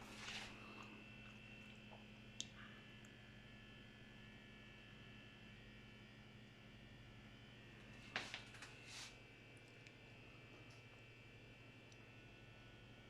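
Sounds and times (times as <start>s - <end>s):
refrigerator low hum: 0.0s - 13.0s.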